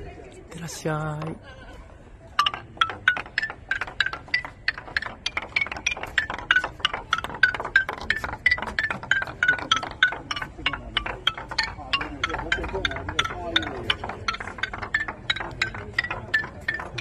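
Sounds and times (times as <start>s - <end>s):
wooden ball knocking on blocks: 1.0s - 1.4s, 2.3s - 17.0s.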